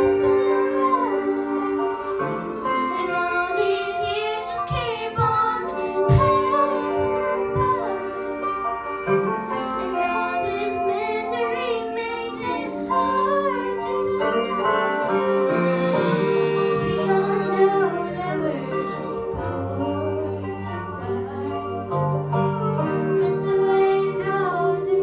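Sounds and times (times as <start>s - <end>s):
girls singing a duet: 0.0s - 8.6s, 9.5s - 25.0s
backing track music: 0.0s - 25.0s.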